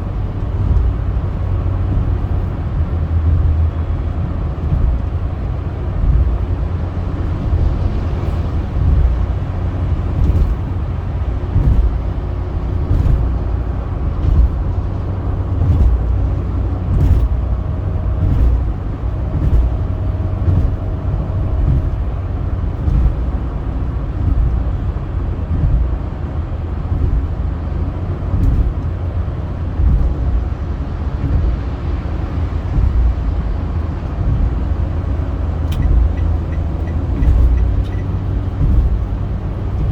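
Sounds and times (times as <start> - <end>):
car road and wind noise: 0.0 - 39.9.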